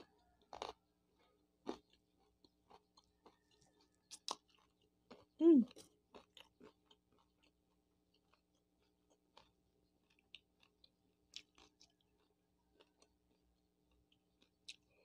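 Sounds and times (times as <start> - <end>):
person chewing softly: 0.0 - 15.0.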